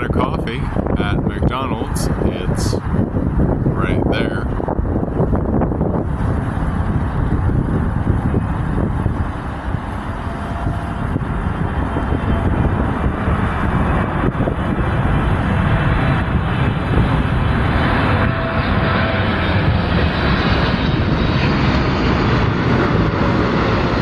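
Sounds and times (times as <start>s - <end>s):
jet airliner roar: 0.0s - 24.0s
traffic engine rumble: 0.0s - 24.0s.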